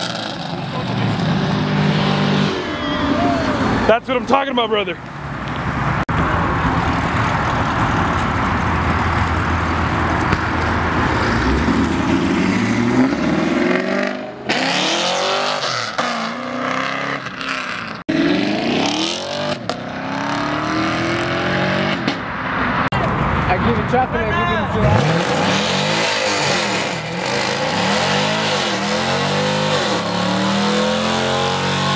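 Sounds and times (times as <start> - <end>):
car engines revving: 0.0 - 31.9.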